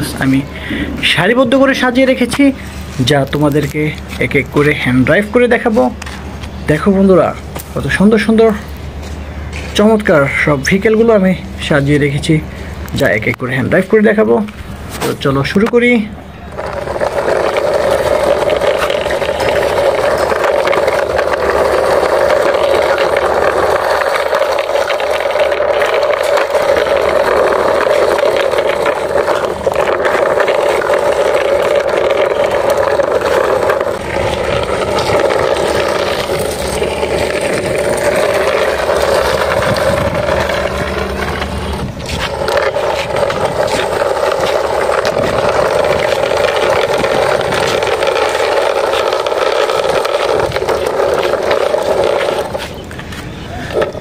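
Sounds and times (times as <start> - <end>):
engine-like drone: 0.0 - 54.0.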